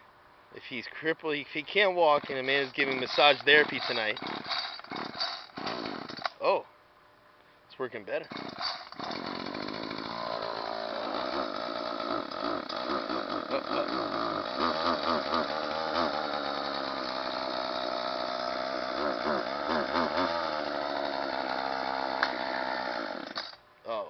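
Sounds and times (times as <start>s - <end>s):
chainsaw revving: 1.8s - 6.4s, 8.2s - 23.6s.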